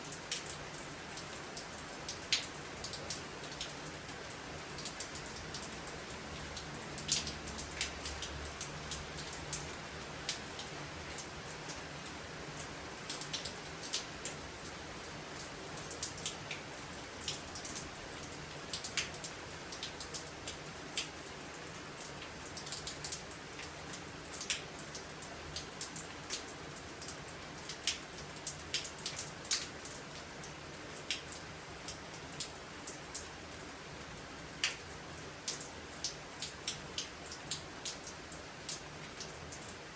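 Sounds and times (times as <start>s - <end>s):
raindrops ticking on surface: 0.0s - 39.9s
steady rain hiss: 0.0s - 39.9s.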